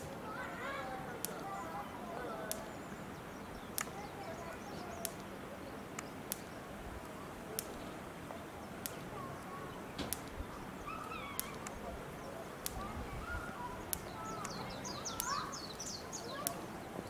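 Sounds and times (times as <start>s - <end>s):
distant voices: 0.0s - 17.0s
faint gliding bird calls: 0.0s - 17.0s.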